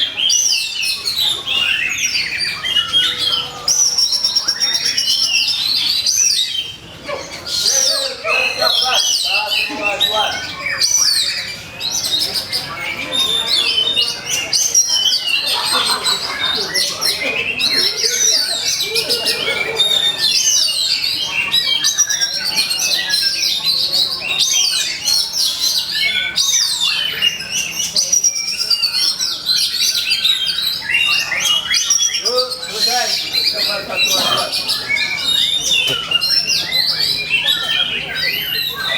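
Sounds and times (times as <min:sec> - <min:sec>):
bird singing whistled notes: 0:07.6 - 0:38.9.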